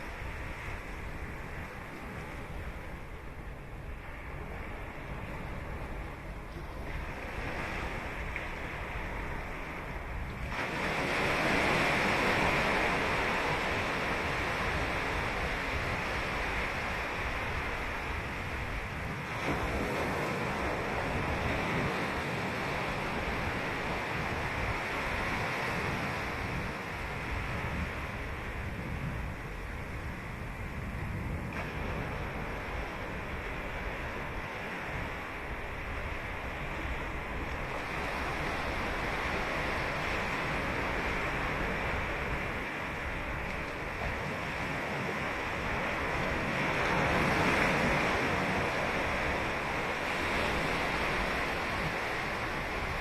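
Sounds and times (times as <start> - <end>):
waves breaking on a beach: 0.0 - 53.0.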